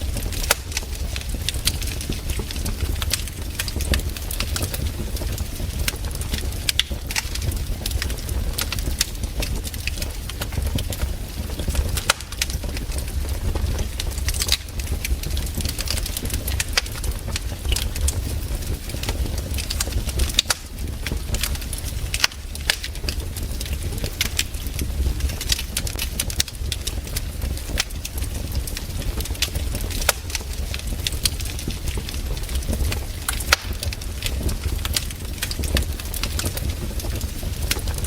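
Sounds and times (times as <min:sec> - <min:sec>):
campfire crackling and popping: 0:00.0 - 0:38.0
low fire rumble: 0:00.0 - 0:38.0.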